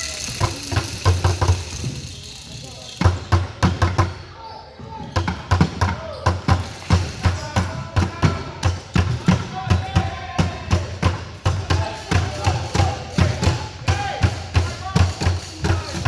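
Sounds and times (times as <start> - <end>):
basketballs bouncing on gym floor: 0.0 - 16.0.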